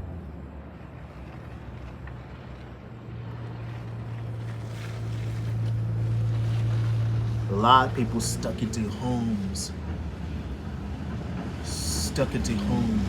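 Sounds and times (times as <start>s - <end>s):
background rushing noise: 0.0s - 13.0s
low engine hum: 0.0s - 13.0s.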